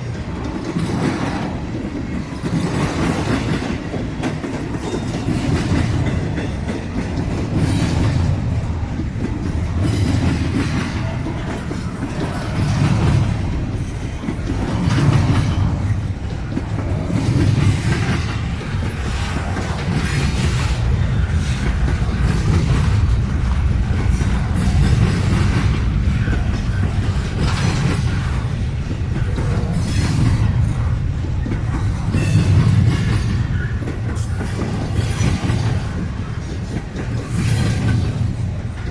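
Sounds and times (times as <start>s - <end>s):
train rumble: 0.0s - 38.9s
train wheels clicking over joints: 0.0s - 38.9s.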